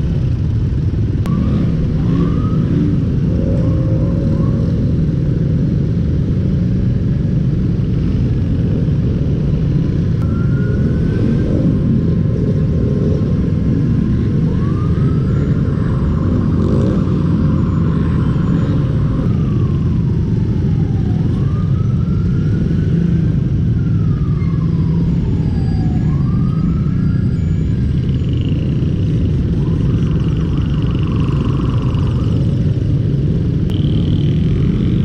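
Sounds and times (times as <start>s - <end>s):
motorcycle engine rumbling: 0.0s - 35.0s
siren wailing: 1.2s - 6.2s, 6.9s - 35.0s.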